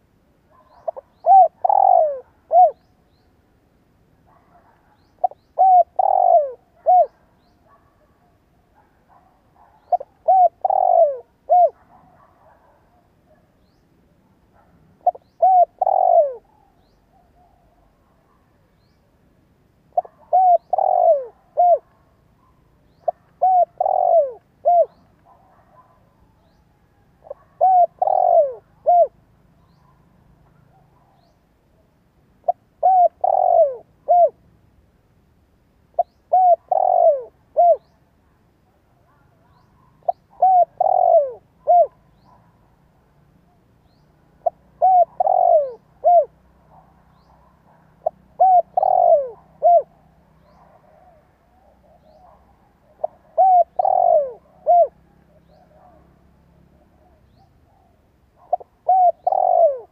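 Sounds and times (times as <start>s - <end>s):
dove cooing: 0.0s - 3.2s, 4.3s - 13.5s, 14.6s - 18.6s, 19.9s - 31.4s, 32.4s - 34.4s, 35.9s - 38.0s, 38.9s - 42.4s, 43.8s - 56.1s, 56.7s - 59.9s.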